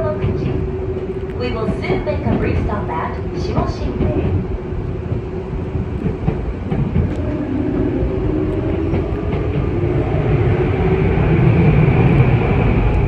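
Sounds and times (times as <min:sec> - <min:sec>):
train rumbling from inside carriage: 0:00.0 - 0:13.0.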